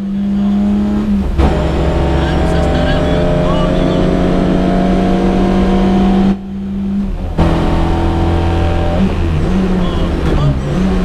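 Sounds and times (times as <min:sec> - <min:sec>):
rally car engine from inside cabin: 0:00.0 - 0:11.0.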